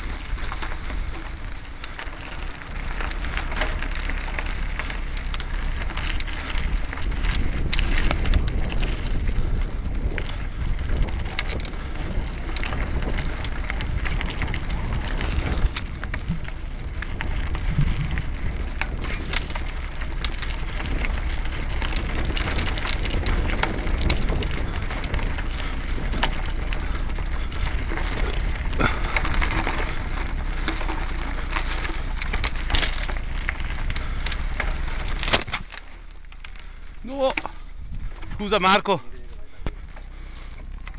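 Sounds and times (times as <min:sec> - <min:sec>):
bike clicking and knocking: 0:00.0 - 0:39.0
bike tyres rumbling on dirt: 0:00.0 - 0:40.9.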